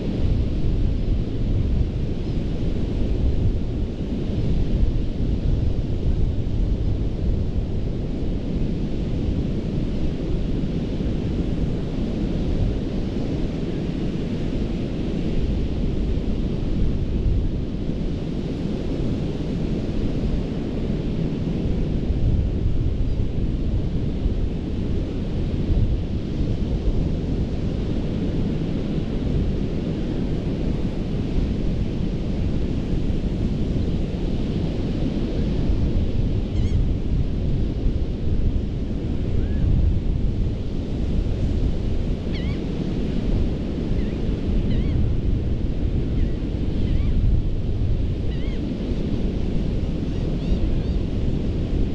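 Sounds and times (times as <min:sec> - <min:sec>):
ocean surf on a beach: 0:00.0 - 0:51.9.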